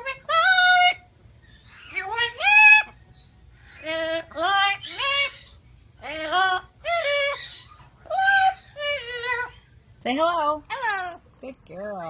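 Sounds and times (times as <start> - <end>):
myna bird calling: 0.0 - 11.4.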